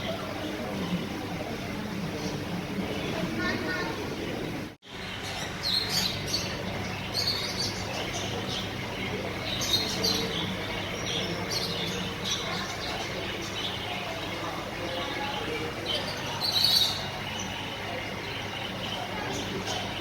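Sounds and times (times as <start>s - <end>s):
caged birds chirping: 0.0s - 20.0s.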